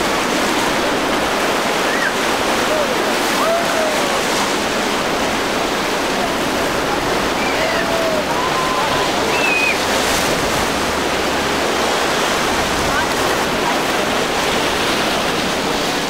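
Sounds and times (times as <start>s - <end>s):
breaking waves and boat wake: 0.0s - 16.0s
distant voices calling out: 1.6s - 14.4s.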